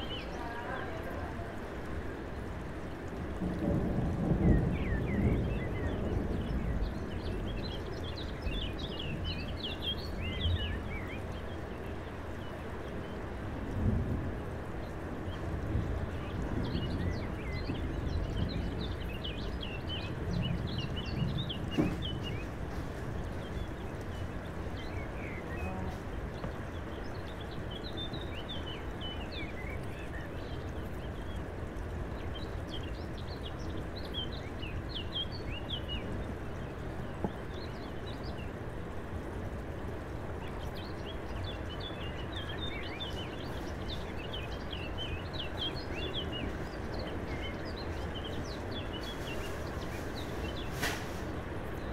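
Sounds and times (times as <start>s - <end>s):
small birds chirping: 0.0s - 1.8s, 3.6s - 13.4s, 14.8s - 51.9s.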